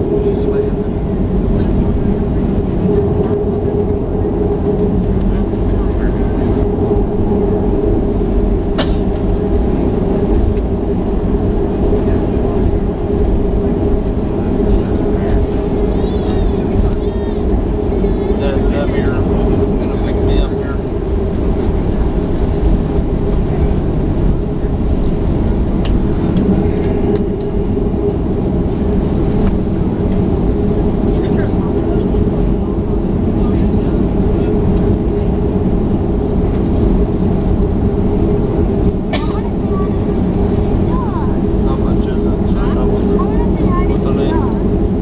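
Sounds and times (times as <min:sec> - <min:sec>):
jet engine rumble and hum: 0:00.0 - 0:45.0.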